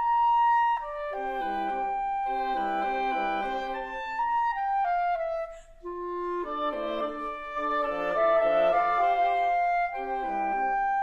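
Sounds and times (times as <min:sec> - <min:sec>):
wind quintet playing: 0:00.0 - 0:11.0.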